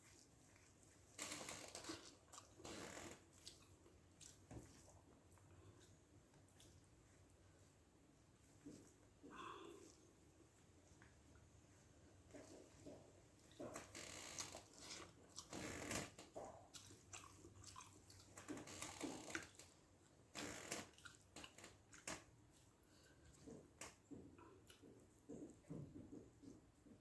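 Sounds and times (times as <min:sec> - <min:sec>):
person chewing food: 0:00.0 - 0:07.8, 0:08.4 - 0:26.6.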